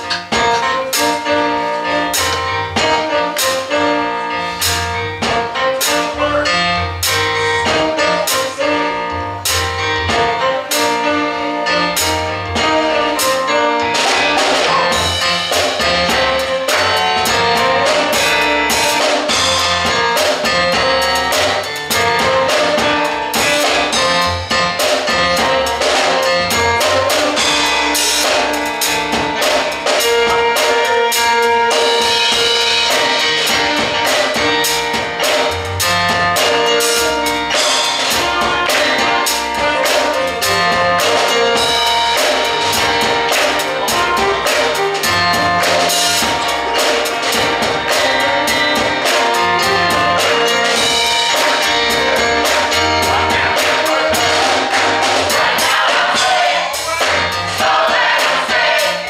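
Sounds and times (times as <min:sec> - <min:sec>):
drum kit beat: 0:00.0 - 0:59.0
held instrumental chords: 0:00.0 - 0:59.0.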